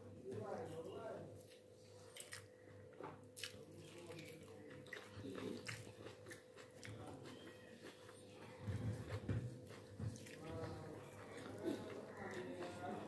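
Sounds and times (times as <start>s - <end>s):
eating by hand clicks and squishes: 1.4s - 13.0s
chewing: 1.5s - 13.0s.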